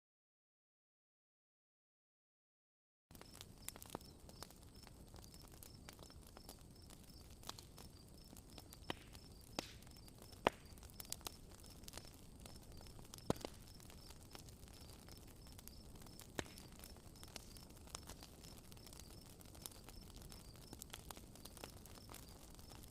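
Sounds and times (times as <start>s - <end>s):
campfire crackling and popping: 3.1s - 22.9s.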